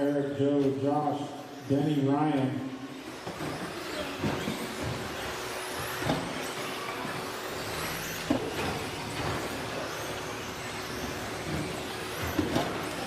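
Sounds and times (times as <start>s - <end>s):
rc trucks racing: 0.0s - 13.0s.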